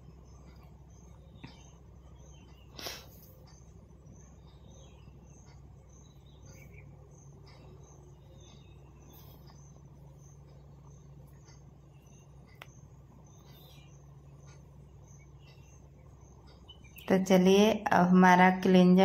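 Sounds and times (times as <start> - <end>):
faint chirps: 0.0 - 19.0
steady low hum: 0.0 - 19.0.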